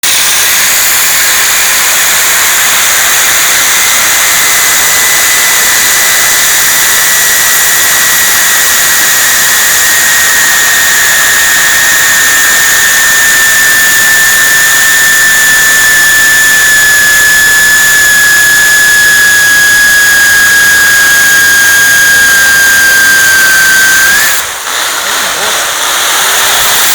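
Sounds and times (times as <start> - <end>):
cutting disc grinding steel: 0.0 - 26.9.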